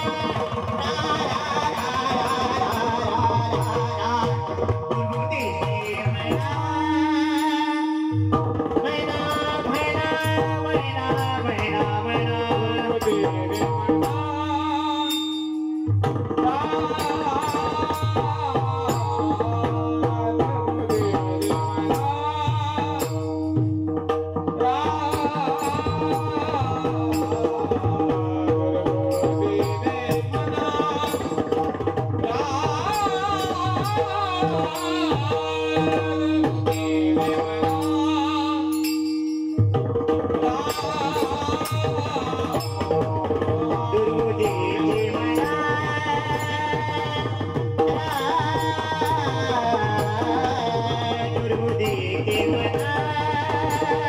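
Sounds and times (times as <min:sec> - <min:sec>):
person singing devotional song: 0:00.0 - 0:23.7, 0:24.5 - 0:39.1, 0:40.1 - 0:54.0
barrel drum rhythm: 0:00.0 - 0:54.0.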